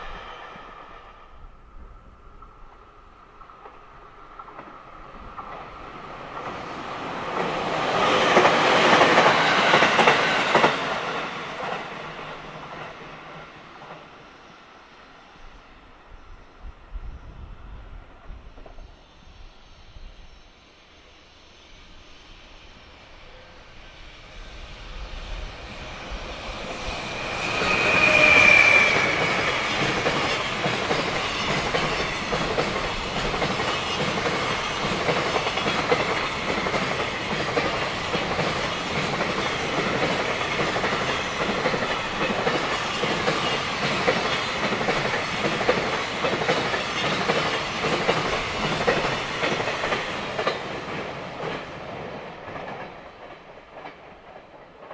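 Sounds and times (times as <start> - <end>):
train passing: 0.0 - 54.9.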